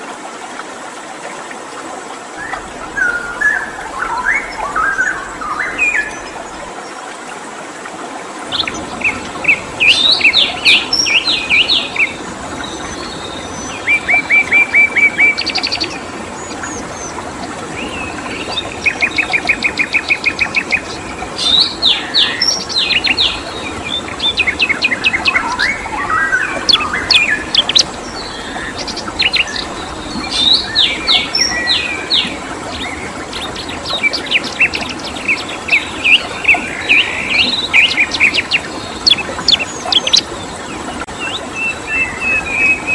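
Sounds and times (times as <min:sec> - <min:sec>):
flowing water rushing: 0:00.0 - 0:42.9
songbird chirping and trilling: 0:02.4 - 0:07.0, 0:08.5 - 0:17.2, 0:17.9 - 0:42.9.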